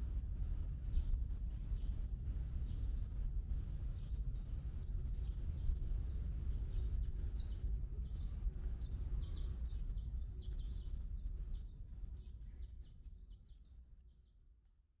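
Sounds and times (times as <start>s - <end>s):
low outdoor rumble: 0.0s - 12.9s
small birds chirping: 0.1s - 14.4s.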